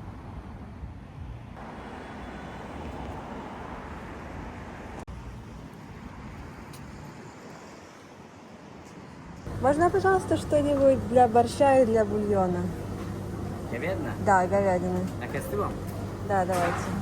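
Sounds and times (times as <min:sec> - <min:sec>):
road traffic passing cars: 0:00.0 - 0:17.0.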